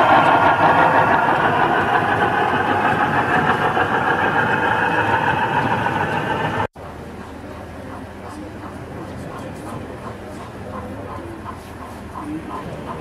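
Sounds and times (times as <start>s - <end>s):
model train wheels on track: 0.0s - 13.0s.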